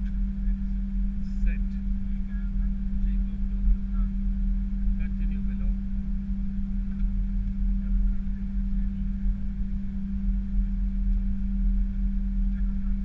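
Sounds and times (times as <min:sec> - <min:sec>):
aircraft engines droning: 0:00.0 - 0:13.0
constant hum: 0:00.0 - 0:13.0.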